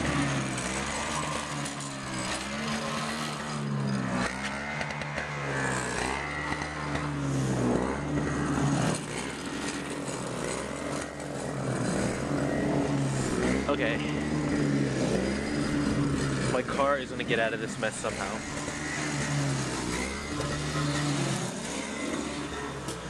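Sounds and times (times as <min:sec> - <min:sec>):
snowblower engine running: 0:00.0 - 0:23.0.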